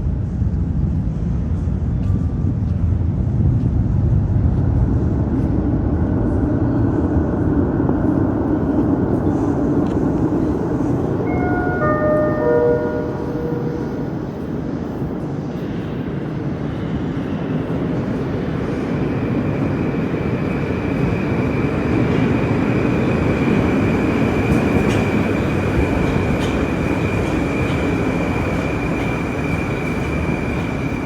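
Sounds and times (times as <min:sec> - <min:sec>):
high whine of train drive: 0:00.0 - 0:31.0
train wheels rumbling on rails: 0:00.0 - 0:31.0.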